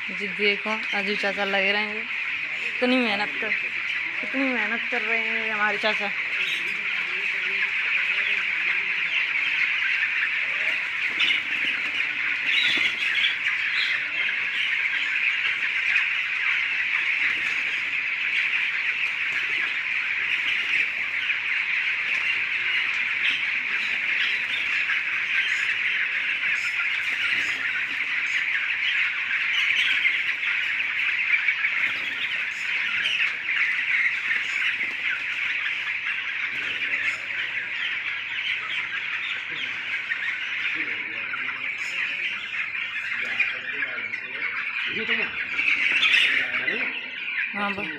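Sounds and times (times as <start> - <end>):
poultry peeping and squawking: 0.0 - 47.9.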